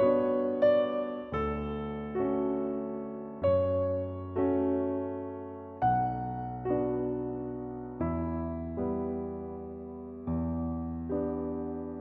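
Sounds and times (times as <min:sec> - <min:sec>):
soft classical piano music: 0:00.0 - 0:12.0.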